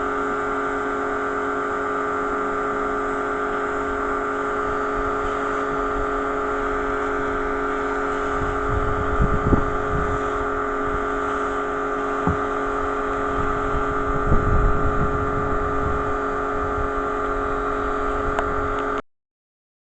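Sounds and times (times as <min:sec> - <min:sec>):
pressure washer humming: 0:00.0 - 0:19.0.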